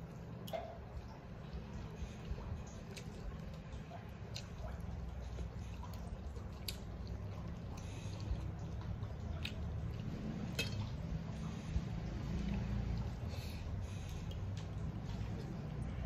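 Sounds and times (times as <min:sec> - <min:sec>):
sharp wet clicks: 0:00.0 - 0:16.0
steady low hum: 0:00.0 - 0:16.0
chewing: 0:00.1 - 0:16.0.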